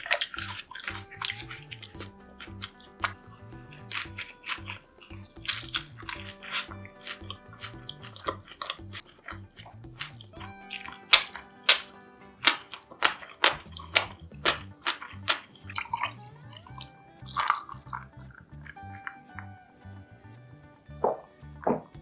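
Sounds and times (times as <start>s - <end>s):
crunchy chewing: 0.0s - 20.3s
background music: 0.0s - 22.0s.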